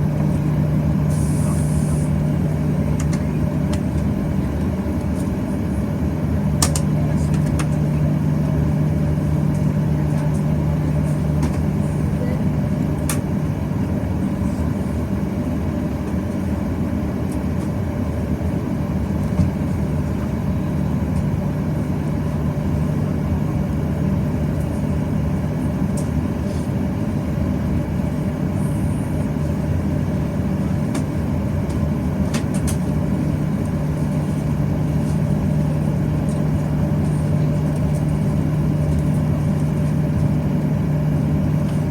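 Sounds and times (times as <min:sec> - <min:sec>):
airplane cabin drone: 0:00.0 - 0:41.9.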